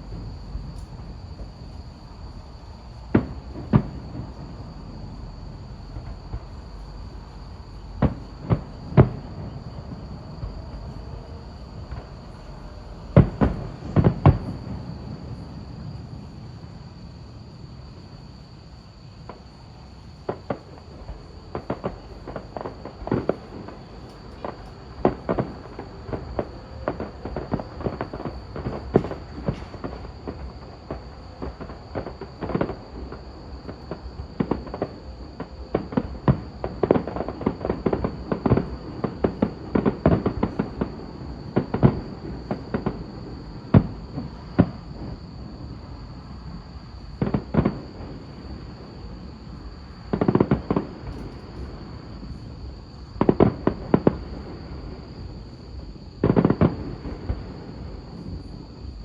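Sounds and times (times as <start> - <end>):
fireworks bangs: 0.0 - 18.2, 19.1 - 59.0.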